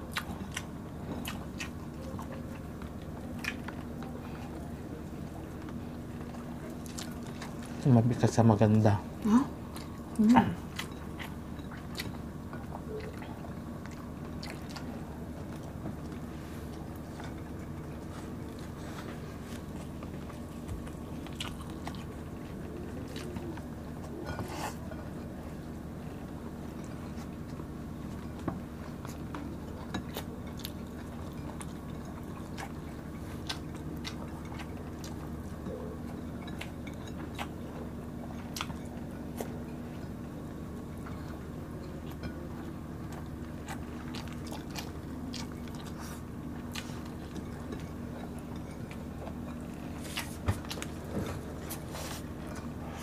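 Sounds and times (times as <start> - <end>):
chewing and biting: 0.0 - 4.6, 10.7 - 25.3, 26.6 - 53.0
steady low hum: 0.0 - 53.0.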